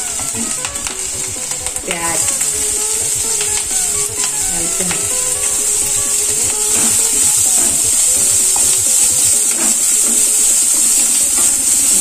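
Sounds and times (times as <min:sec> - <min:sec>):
onions sizzling in hot oil: 0:00.0 - 0:12.0
wooden spatula stirring: 0:00.0 - 0:12.0.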